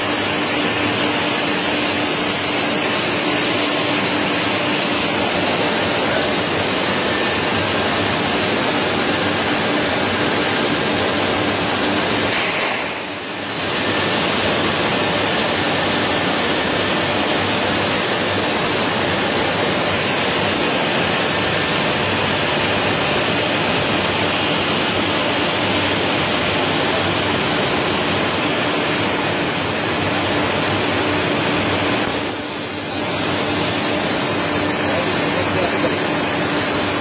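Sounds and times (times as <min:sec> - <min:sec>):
machinery rushing noise: 0:00.0 - 0:37.0.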